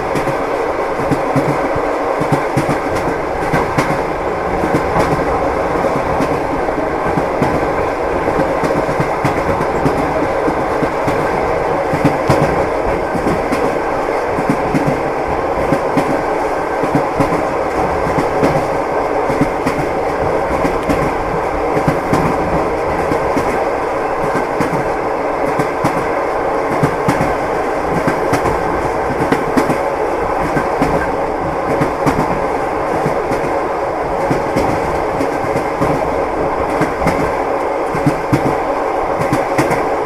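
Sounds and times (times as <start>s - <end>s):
moving train rumbling: 0.0s - 40.0s
train wheels clacking: 0.0s - 40.0s.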